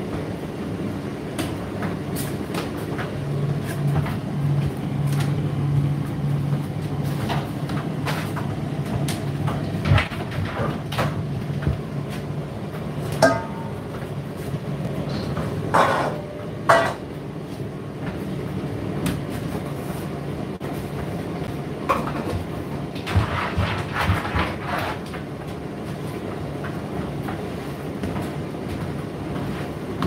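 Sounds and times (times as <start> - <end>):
tumble dryer motor hum: 0.0 - 30.0.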